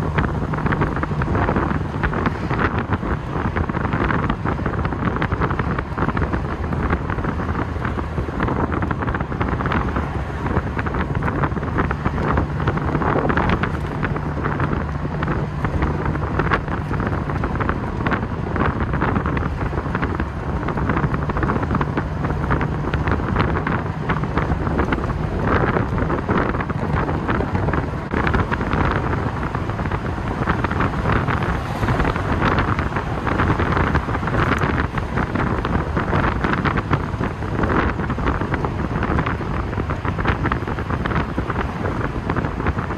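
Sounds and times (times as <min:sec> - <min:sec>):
sports car engine running: 0:00.0 - 0:42.9
wind buffeting microphone: 0:00.0 - 0:42.9.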